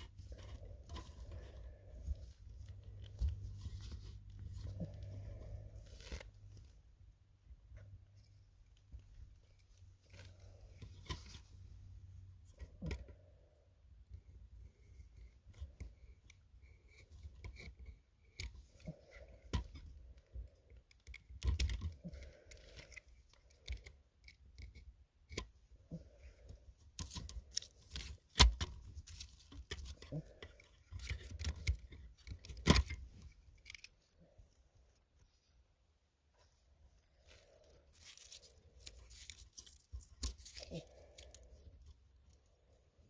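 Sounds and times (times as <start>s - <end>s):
muffled handling: 0.0s - 43.0s.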